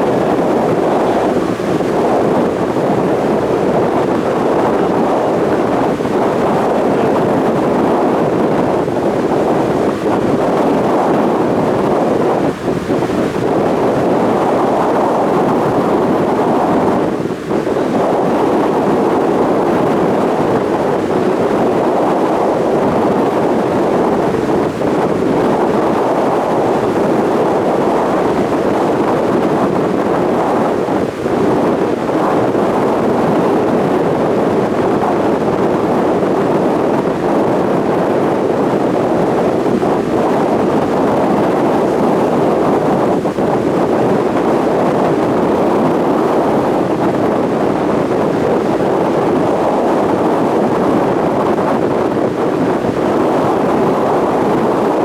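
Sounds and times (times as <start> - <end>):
ferry engine and water rush: 0.0 - 55.0
wind buffeting microphone: 0.0 - 55.0.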